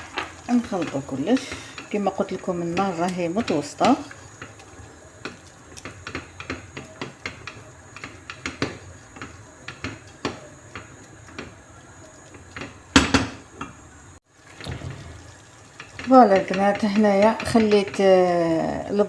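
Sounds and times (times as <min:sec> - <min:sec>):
onions sizzling: 0:00.0 - 0:19.0.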